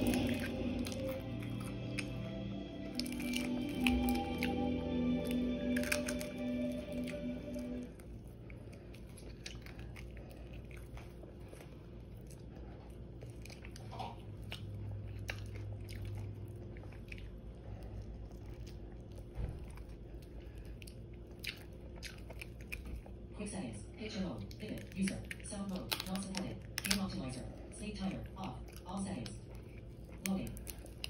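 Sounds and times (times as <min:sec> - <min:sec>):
person chewing crispy food: 0:00.0 - 0:23.3, 0:24.4 - 0:31.0
faint low hum: 0:00.0 - 0:31.0.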